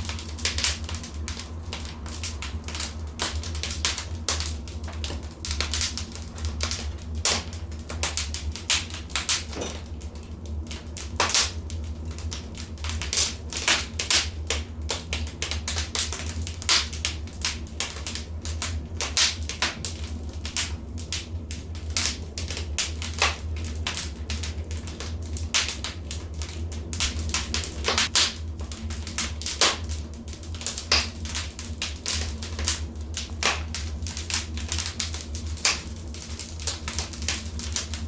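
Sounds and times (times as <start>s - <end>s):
fire snaps and pops: 0.0s - 38.0s
wood fire crackling: 0.0s - 38.0s.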